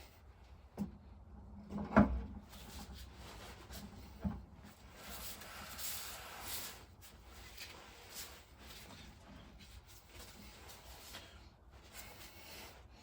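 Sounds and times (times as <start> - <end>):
soft rustling: 2.5 - 13.0.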